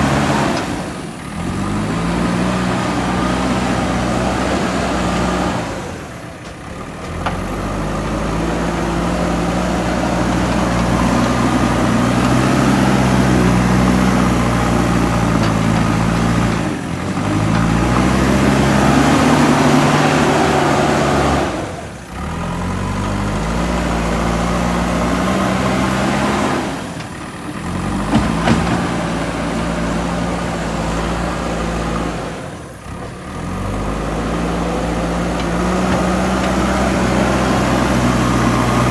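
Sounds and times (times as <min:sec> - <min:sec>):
diesel engine revving: 0:00.0 - 0:38.9.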